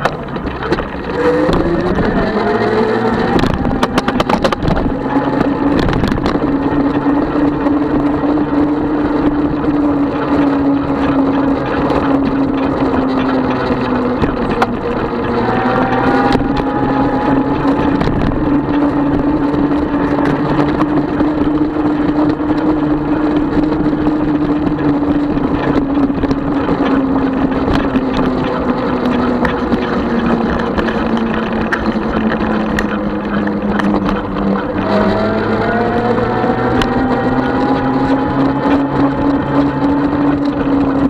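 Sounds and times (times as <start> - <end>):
constant rushing noise: 0.0 - 41.0
electric bike motor whining: 0.0 - 41.0.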